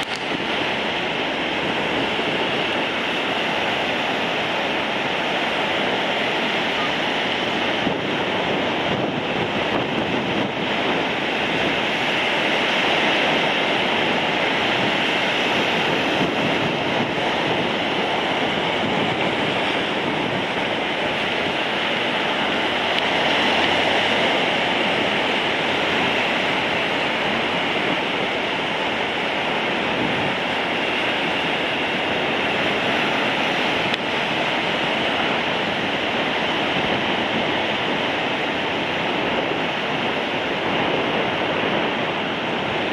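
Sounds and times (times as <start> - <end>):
heavy surf breaking: 0.0 - 42.9.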